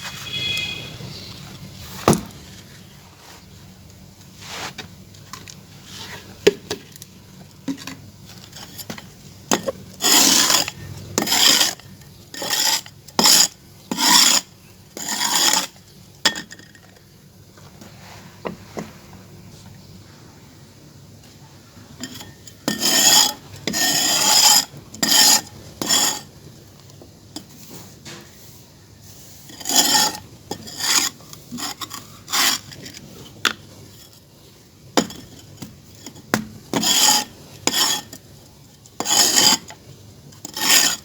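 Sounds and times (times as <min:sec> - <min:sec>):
scraping on clay pot: 0:00.0 - 0:03.6, 0:04.3 - 0:07.0, 0:07.6 - 0:17.0, 0:22.0 - 0:41.0.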